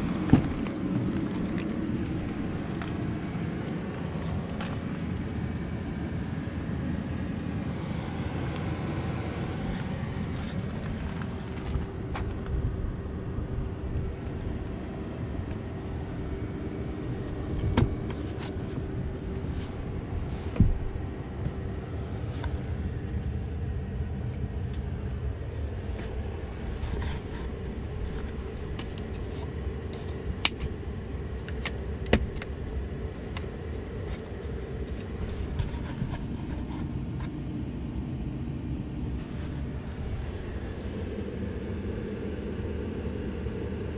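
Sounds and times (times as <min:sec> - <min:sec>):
faint steady hum: 0:00.0 - 0:43.9
road and tyre noise: 0:00.0 - 0:43.9.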